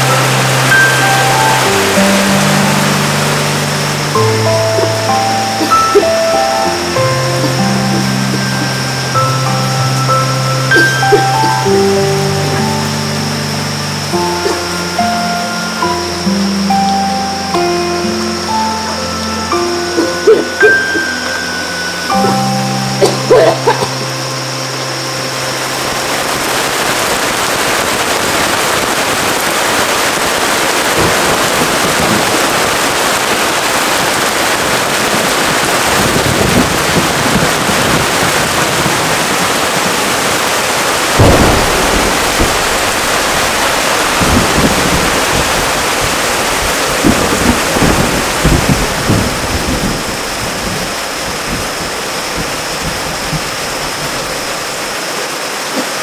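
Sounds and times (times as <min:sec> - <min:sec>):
thunder rumbling: 0:00.0 - 0:18.6, 0:25.7 - 0:54.8
heavy rain falling: 0:00.0 - 0:56.0.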